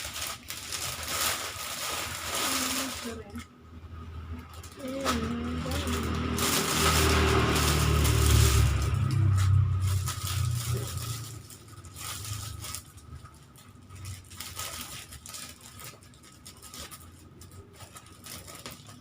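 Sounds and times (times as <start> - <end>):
plastic wrappers crinkling: 0.0 - 3.4, 4.4 - 19.0.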